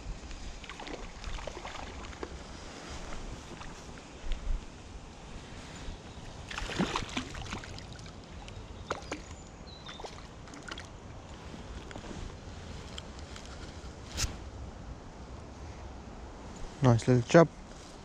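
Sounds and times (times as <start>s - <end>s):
rustling of hands and grass: 1.9s - 6.5s, 7.8s - 18.0s.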